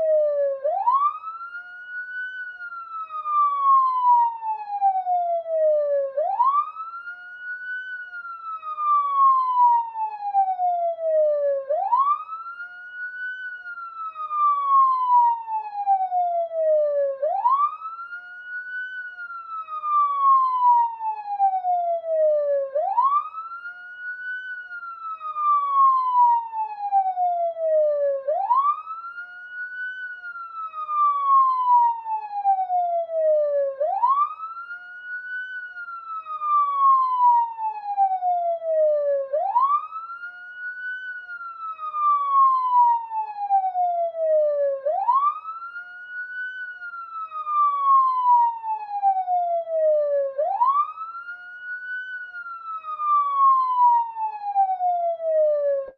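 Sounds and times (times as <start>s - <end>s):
police siren wailing: 0.0s - 55.9s.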